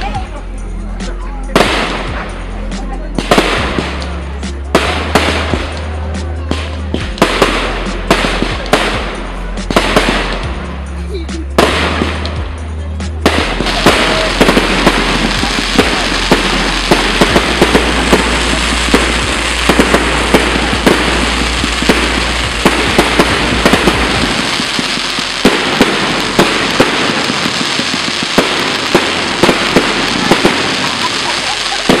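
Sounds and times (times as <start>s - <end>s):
fireworks crackling: 0.0s - 32.0s
fireworks banging: 1.5s - 32.0s.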